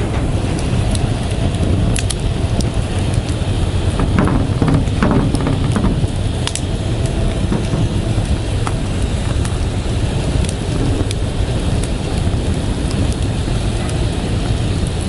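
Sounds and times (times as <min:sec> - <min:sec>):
bonfire crackling and popping: 0:00.0 - 0:15.0
low fire rumble: 0:00.0 - 0:15.0.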